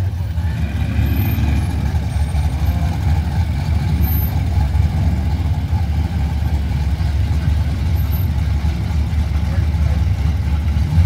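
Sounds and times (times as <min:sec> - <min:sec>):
car engine idling roughly: 0:00.0 - 0:11.0.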